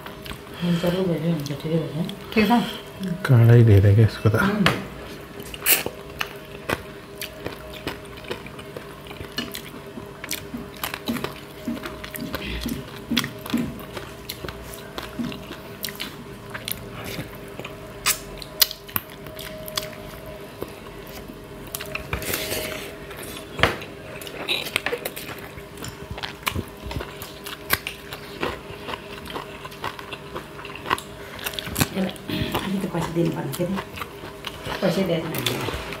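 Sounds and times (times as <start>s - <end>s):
chewing: 0.0s - 0.6s, 5.1s - 36.0s
faint steady hum: 0.0s - 36.0s.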